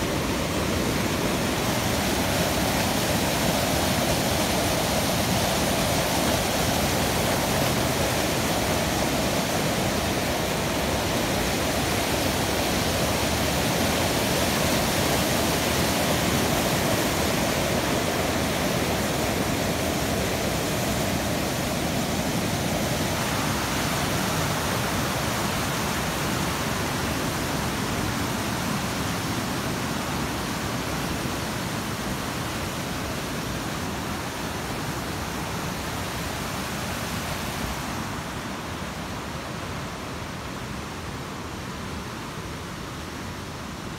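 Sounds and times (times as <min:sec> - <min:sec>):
rushing mountain water: 0:00.0 - 0:43.9.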